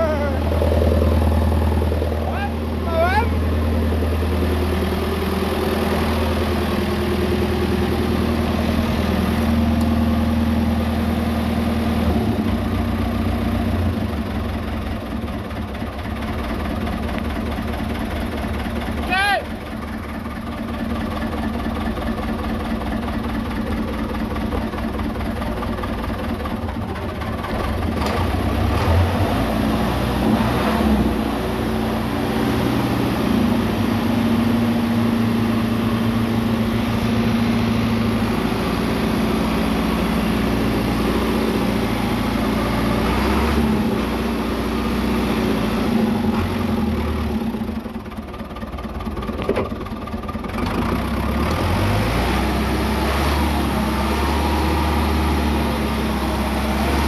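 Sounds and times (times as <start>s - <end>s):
tractor engine idling: 0.0s - 30.0s, 31.1s - 57.0s.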